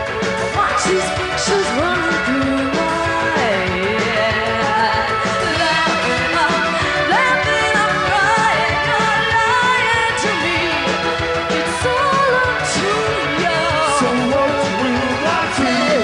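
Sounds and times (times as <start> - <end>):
drums: 0.0 - 16.0
person singing: 0.0 - 16.0
synthesizers: 0.0 - 16.0.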